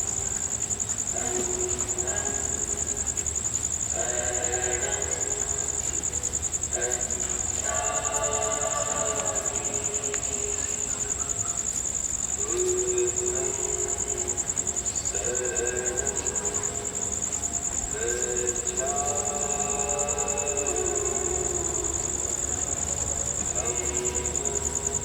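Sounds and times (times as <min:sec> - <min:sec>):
crickets chirring: 0:00.0 - 0:25.0
group chanting in held tones: 0:00.0 - 0:25.0.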